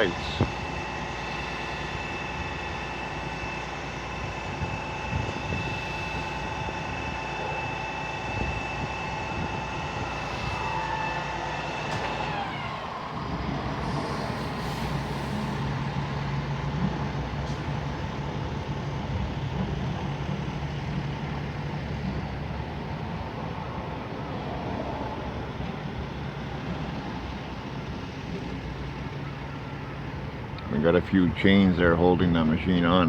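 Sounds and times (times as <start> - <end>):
diesel engine drone: 0.0 - 33.0
machinery whine: 0.0 - 33.0.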